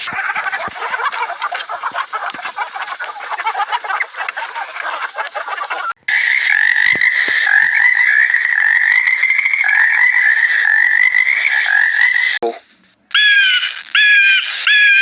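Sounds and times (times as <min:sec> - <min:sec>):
chorus of small animals calling: 0:00.0 - 0:12.4, 0:13.1 - 0:15.0.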